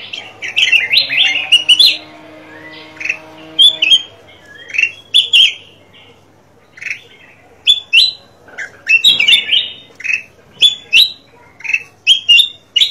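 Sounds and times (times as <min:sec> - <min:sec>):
bird chirping: 0:00.0 - 0:12.9.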